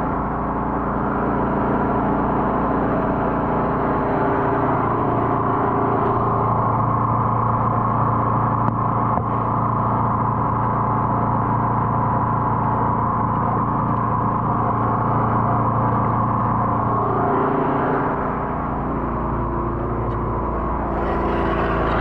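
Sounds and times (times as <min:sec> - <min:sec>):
drain jetter engine running: 0:00.0 - 0:22.0.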